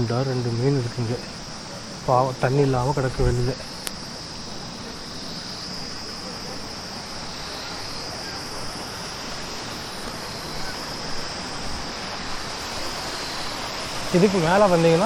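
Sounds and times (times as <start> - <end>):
flowing water: 0.0 - 15.0
high-pitched insect drone: 0.0 - 15.0.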